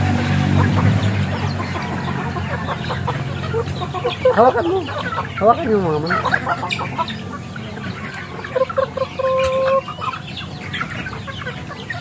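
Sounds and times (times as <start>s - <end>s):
chicks clucking and peeping: 0.0s - 12.0s.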